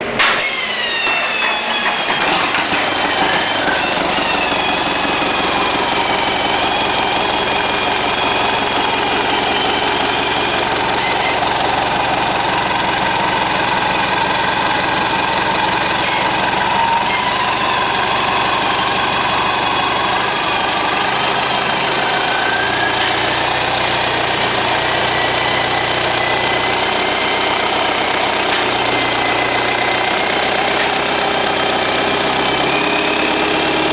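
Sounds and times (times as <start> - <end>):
diesel engine starting and idling: 0.0 - 33.9.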